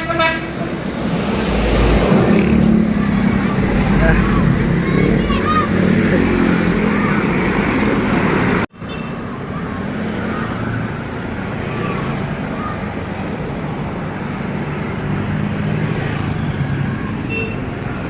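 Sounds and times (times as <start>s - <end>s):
passing vehicles: 0.0s - 18.0s.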